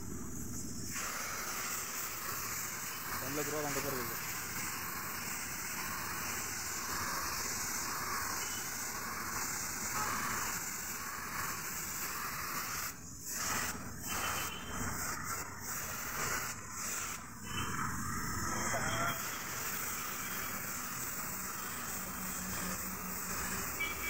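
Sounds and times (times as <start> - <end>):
spray gun hissing: 0.0 - 24.0.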